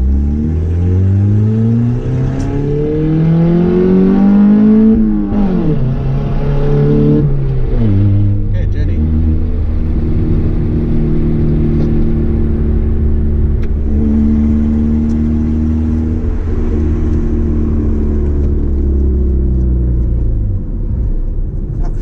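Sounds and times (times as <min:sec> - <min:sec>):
car engine: 0:00.0 - 0:22.0
road noise inside car: 0:00.0 - 0:22.0.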